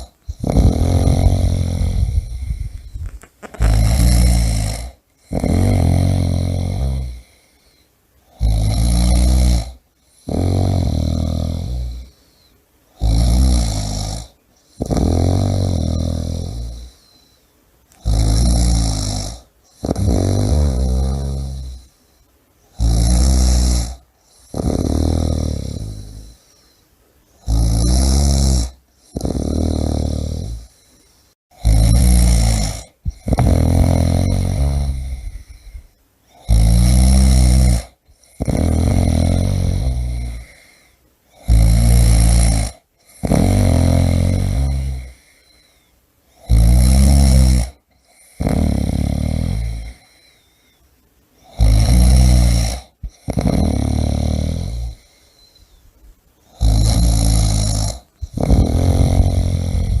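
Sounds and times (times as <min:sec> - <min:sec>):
person snoring heavily: 0:00.0 - 0:07.7, 0:08.3 - 0:22.1, 0:22.7 - 0:26.7, 0:27.4 - 0:50.5, 0:51.4 - 0:55.8, 0:56.4 - 1:00.0.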